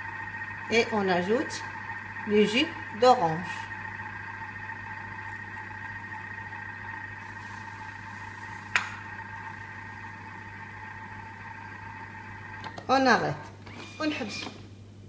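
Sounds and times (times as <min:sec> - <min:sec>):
kitchen mixer motor whining: 0:00.0 - 0:13.2.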